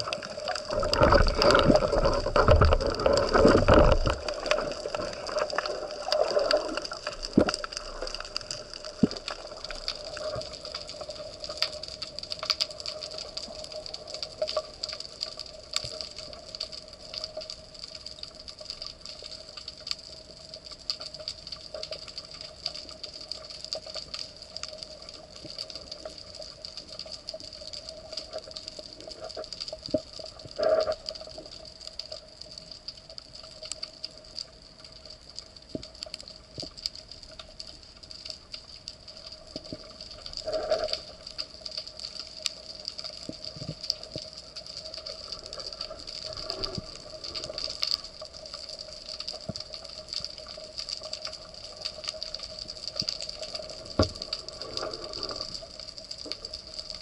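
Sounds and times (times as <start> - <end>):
dense crackle of tiny clicks: 0.0 - 57.0
steady underwater hum: 0.0 - 57.0.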